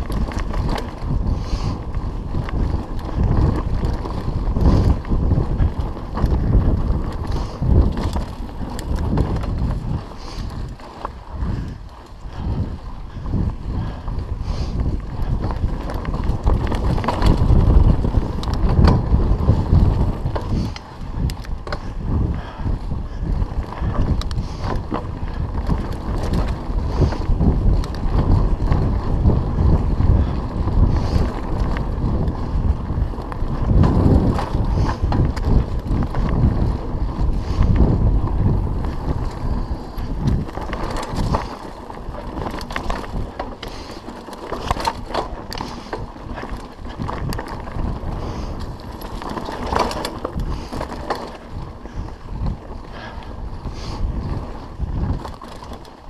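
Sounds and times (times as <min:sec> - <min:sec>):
bike clicks and rattles: 0:00.0 - 0:56.0
tyres rumbling on dirt: 0:00.0 - 0:56.0
wind buffeting microphone: 0:00.0 - 0:56.0.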